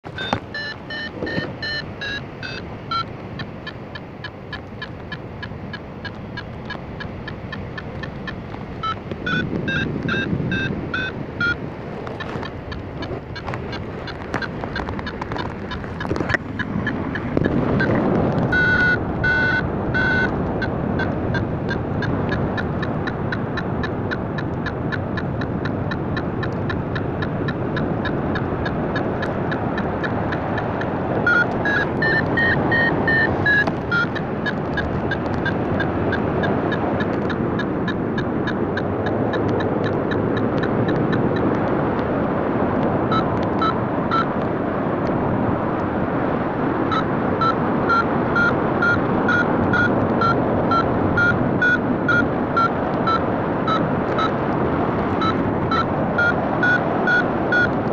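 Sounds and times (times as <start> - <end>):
variometer beeping: 0.1 - 45.2, 46.4 - 57.9
wind rushing across microphone: 0.1 - 57.9.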